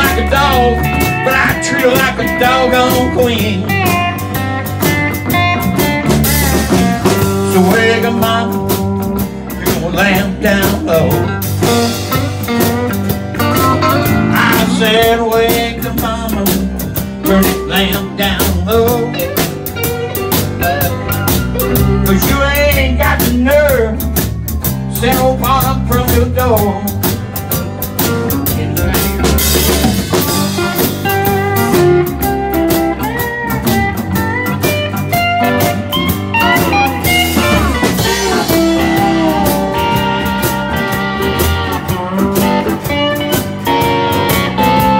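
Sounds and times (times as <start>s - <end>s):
drum kit with cymbals: 0.0s - 44.9s
electric bass: 0.0s - 44.9s
lead guitar bending notes: 0.0s - 44.9s.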